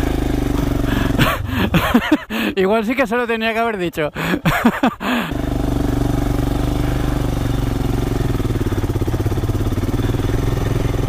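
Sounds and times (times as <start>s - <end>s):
motorcycle engine running: 0.0s - 2.5s, 4.2s - 11.0s.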